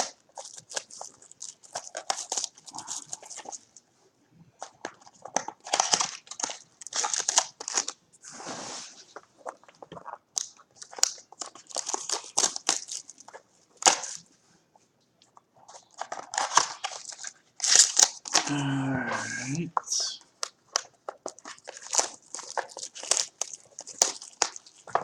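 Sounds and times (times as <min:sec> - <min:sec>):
card wrappers crinkling: 0:00.0 - 0:03.8, 0:04.6 - 0:08.0, 0:09.2 - 0:14.3, 0:15.6 - 0:25.0.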